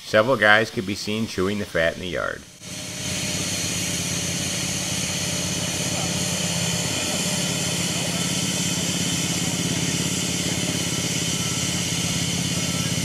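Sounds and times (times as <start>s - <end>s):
small engine idling: 2.6s - 13.0s.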